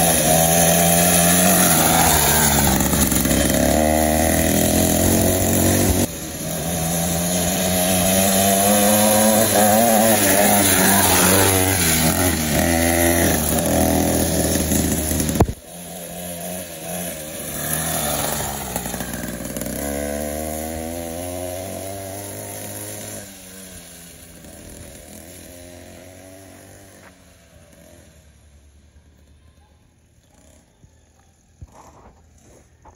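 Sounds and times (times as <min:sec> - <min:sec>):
small two-stroke engine revving: 0:00.0 - 0:32.9.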